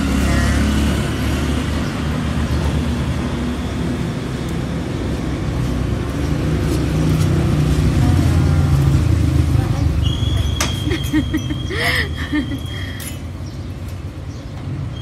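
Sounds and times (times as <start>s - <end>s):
vehicle engine low rumble: 0.0s - 14.8s
road traffic: 0.0s - 15.0s.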